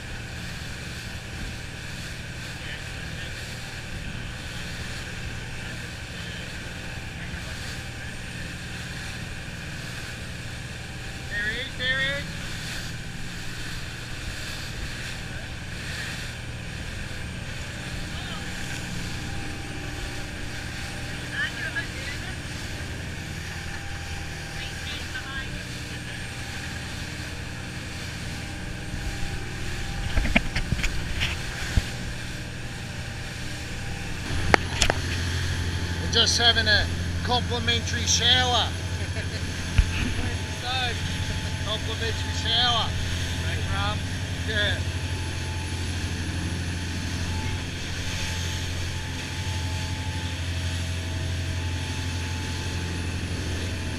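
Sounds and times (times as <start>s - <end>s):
motorboat engine drone: 0.0s - 53.9s
water rushing in wake: 0.0s - 53.9s.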